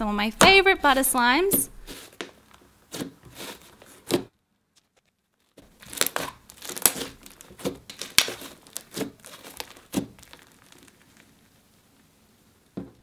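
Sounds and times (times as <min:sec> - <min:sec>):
slime crackling and popping: 0:01.8 - 0:12.8.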